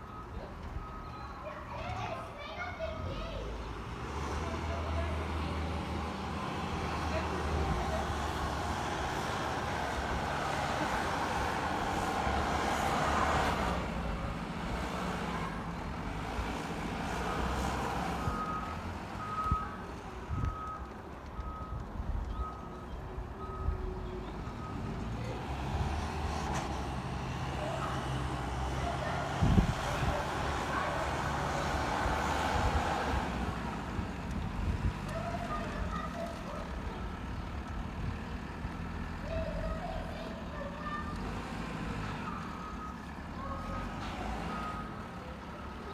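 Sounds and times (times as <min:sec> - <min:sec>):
diesel engine working: 0:00.0 - 0:45.9.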